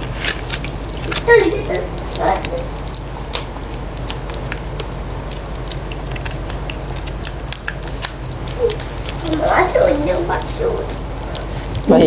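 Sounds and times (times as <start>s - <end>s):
cats chewing food: 0.0s - 12.0s
steady low hum: 0.0s - 12.0s.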